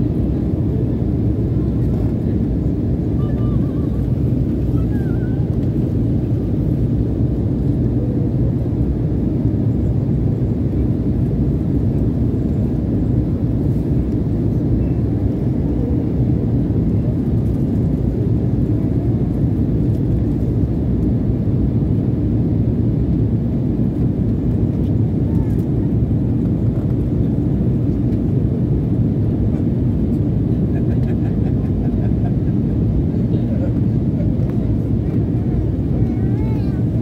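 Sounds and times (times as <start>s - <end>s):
jet airliner cabin drone: 0.0s - 37.0s.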